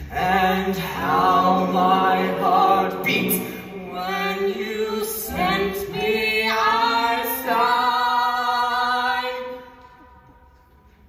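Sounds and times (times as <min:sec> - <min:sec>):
man and woman singing duet: 0:00.0 - 0:09.9.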